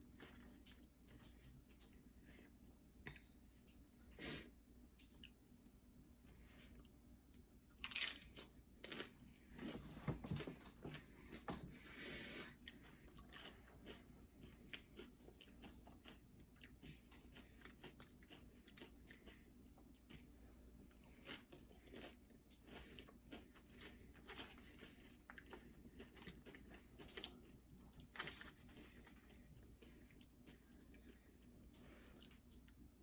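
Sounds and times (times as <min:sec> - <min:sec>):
person chewing crunchy chips: 0:00.0 - 0:03.4, 0:07.8 - 0:09.9, 0:10.9 - 0:32.8.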